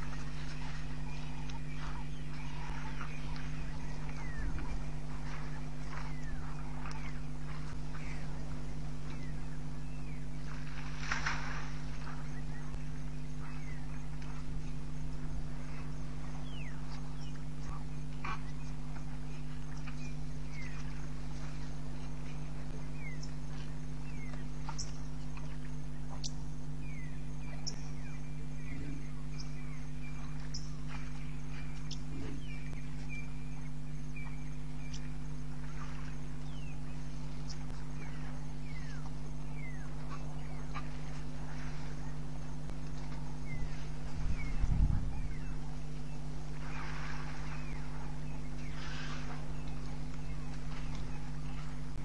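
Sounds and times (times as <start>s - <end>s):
birds chirping: 0.0s - 52.0s
steady low hum: 0.0s - 52.0s.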